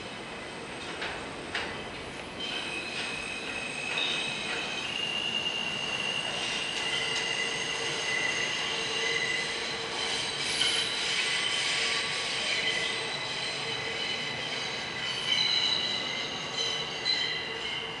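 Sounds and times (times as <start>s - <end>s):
train wheels squealing on rails: 0.0s - 18.0s.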